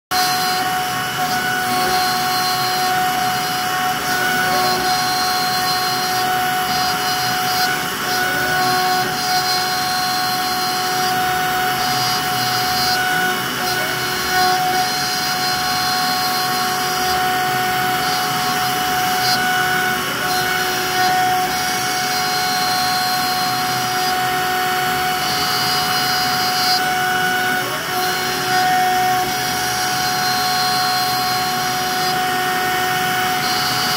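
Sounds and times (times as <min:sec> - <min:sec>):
bit cutting wood: 0:00.1 - 0:33.9
router spindle whine: 0:00.1 - 0:33.9.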